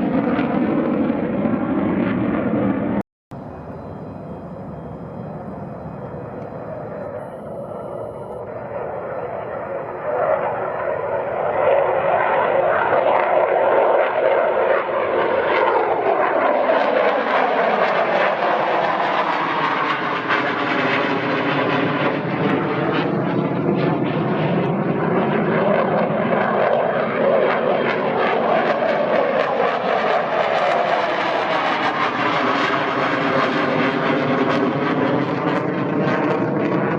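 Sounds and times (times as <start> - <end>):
fighter jet flying past: 0.0 - 36.9.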